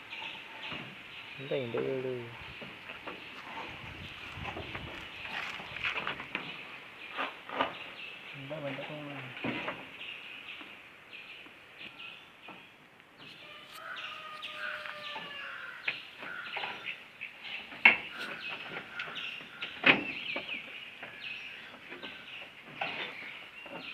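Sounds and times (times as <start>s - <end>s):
chickens calling: 0.0s - 9.3s, 13.2s - 23.9s.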